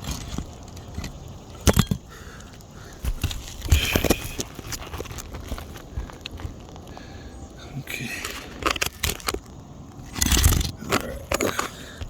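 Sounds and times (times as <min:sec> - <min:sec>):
crackling scrapes of shingle: 0:00.0 - 0:12.0.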